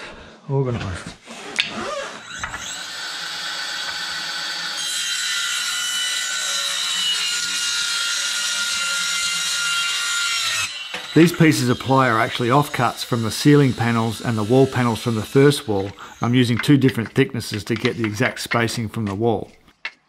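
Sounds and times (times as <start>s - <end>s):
circular saw cutting plywood: 1.2s - 19.6s.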